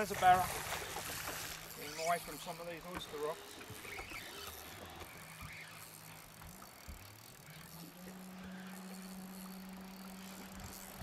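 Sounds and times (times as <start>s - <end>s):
electric trolling motor humming: 0.0s - 11.0s.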